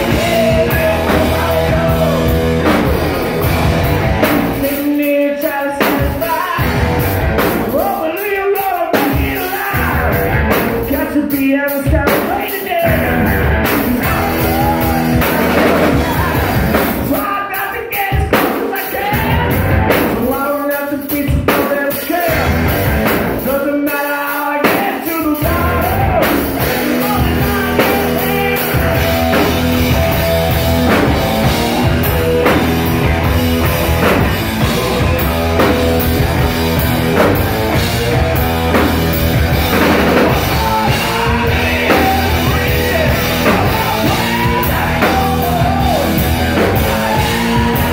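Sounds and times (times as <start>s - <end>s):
bass guitar: 0.0s - 17.4s, 18.2s - 20.5s, 21.1s - 23.8s, 24.6s - 47.9s
electric guitar: 0.0s - 20.4s, 21.0s - 47.9s
drum kit: 0.0s - 47.9s
man singing: 0.0s - 47.9s.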